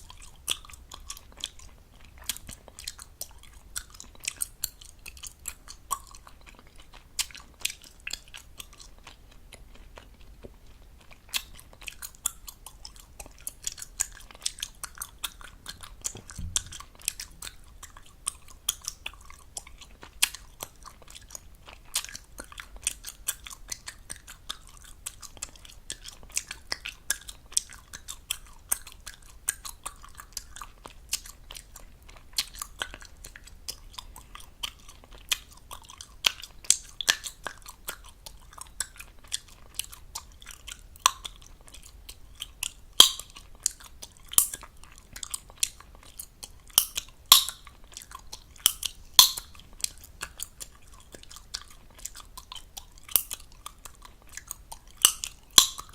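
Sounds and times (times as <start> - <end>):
gum chewing wet smacks: 0.0 - 55.9.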